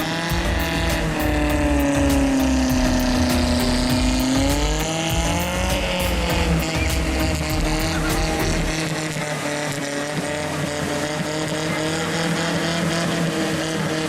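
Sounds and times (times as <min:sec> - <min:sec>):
engine running hard under load: 0:00.0 - 0:14.0.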